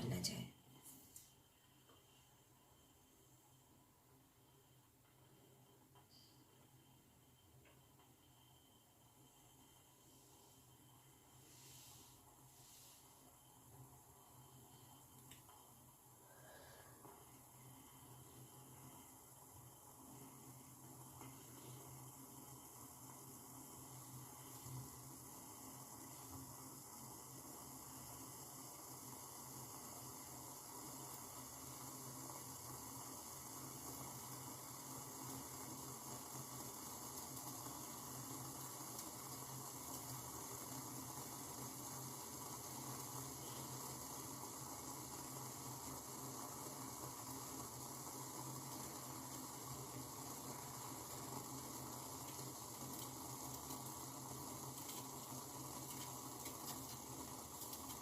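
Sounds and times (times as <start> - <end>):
pot heating on gas burner: 0.0 - 58.0.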